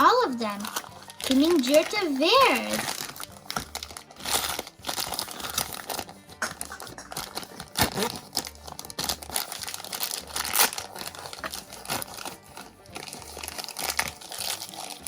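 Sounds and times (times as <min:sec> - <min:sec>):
plastic wrappers crinkling: 0:00.0 - 0:15.0.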